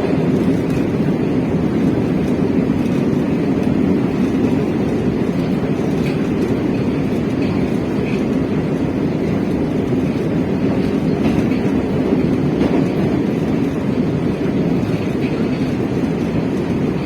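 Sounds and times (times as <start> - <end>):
metro train wheels rumbling on rails: 0.0 - 17.0.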